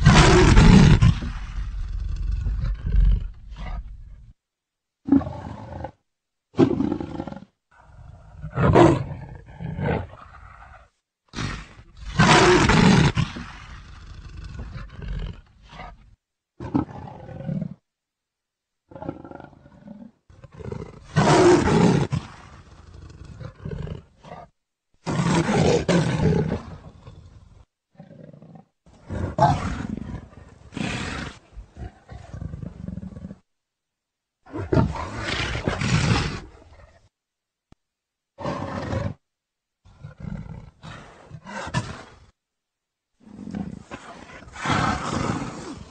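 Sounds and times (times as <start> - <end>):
leopard roaring: 0.0 - 4.3, 6.6 - 16.0, 18.9 - 33.4, 34.4 - 37.1, 38.4 - 39.2, 39.8 - 42.3, 43.2 - 45.9.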